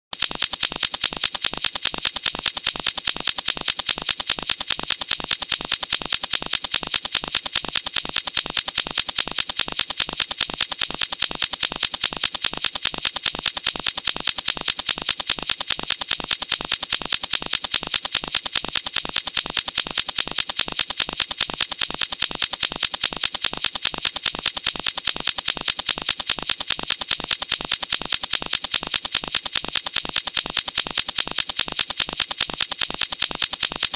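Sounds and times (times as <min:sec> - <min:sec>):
fidget toy clicking rapidly: 0:00.1 - 0:33.9.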